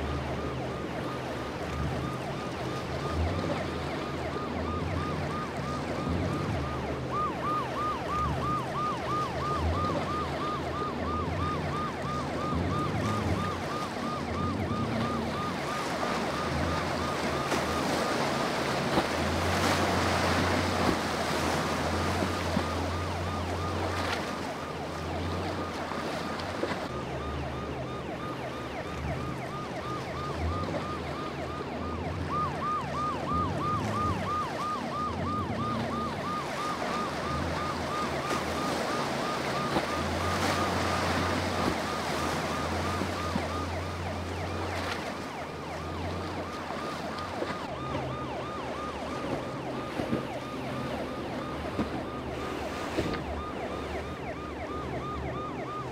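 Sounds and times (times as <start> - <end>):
boat siren yelping: 0.0 - 55.9
churning water: 0.0 - 55.9
outboard engines droning: 0.0 - 55.9
wind: 0.0 - 55.9.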